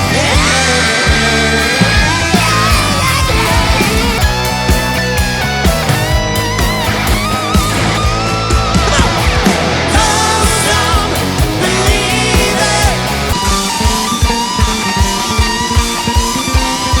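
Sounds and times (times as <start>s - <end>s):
bass guitar: 0.0s - 17.0s
lead electric guitar bending notes: 0.0s - 17.0s
steady drum beat: 0.0s - 17.0s.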